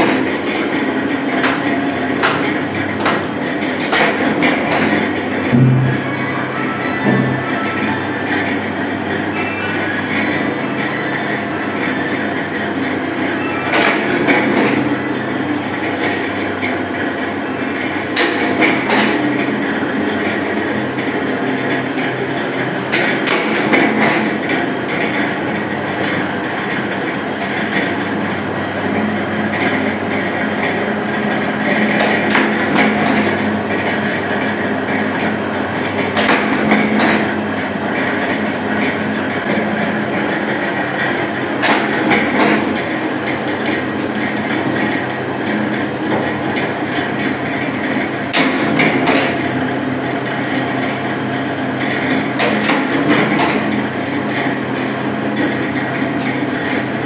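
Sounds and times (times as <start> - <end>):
press mechanical hum: 0.0 - 57.0.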